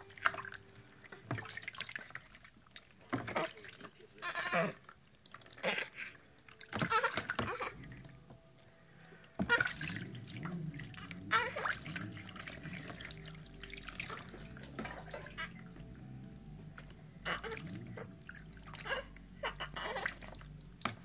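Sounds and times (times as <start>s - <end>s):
bathwater splashing and trickling: 0.0s - 21.0s.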